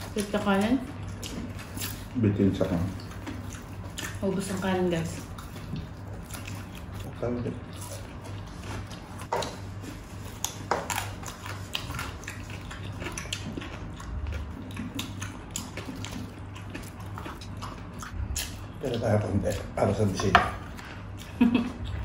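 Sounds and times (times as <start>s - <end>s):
chewing crispy food: 0.0s - 22.0s.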